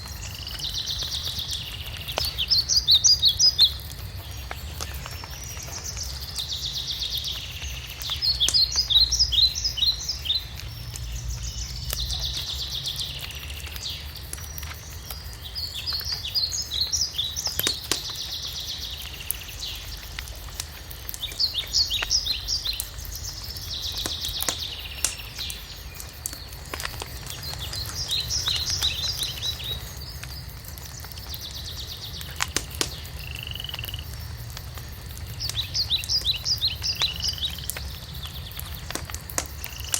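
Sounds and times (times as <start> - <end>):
songbird singing buzzy trill: 0.0 - 34.2, 35.4 - 39.9
wood fire crackling and popping: 0.0 - 39.9.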